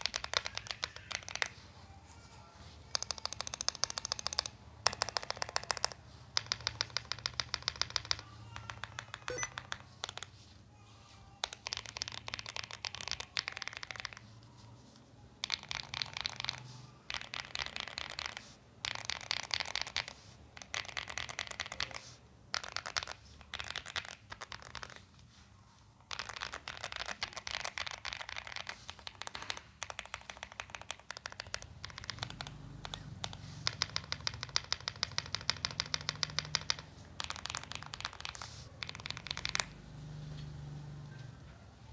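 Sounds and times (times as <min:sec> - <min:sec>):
mechanical keyboard typing: 0:00.0 - 0:01.6, 0:02.9 - 0:10.4, 0:11.4 - 0:14.4, 0:15.4 - 0:25.0, 0:26.1 - 0:41.1.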